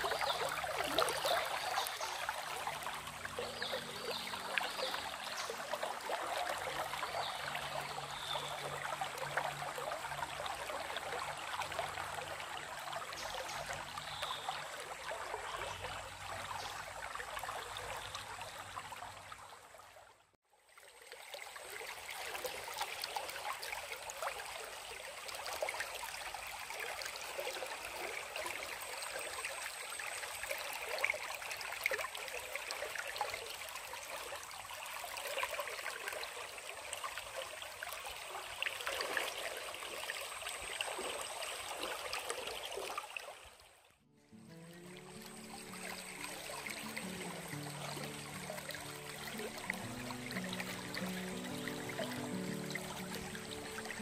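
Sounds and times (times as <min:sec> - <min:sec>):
stream water rushing: 0:00.0 - 0:19.8, 0:20.7 - 0:54.0.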